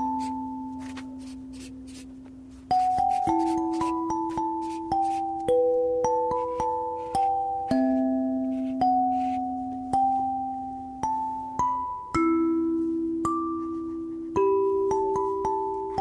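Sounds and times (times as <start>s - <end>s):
mallet percussion melody: 2.6s - 16.0s.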